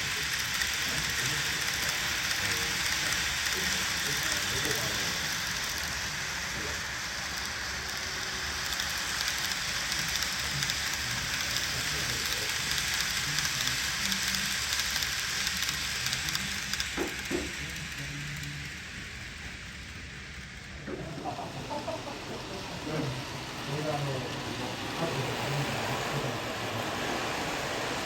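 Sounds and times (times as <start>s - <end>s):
model train wheels clicking on rails: 0.0s - 28.0s.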